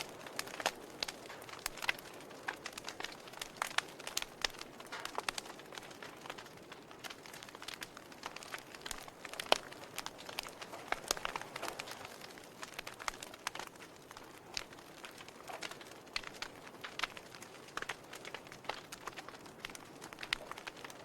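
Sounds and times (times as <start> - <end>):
logs crackling in a fireplace: 0.0 - 21.0.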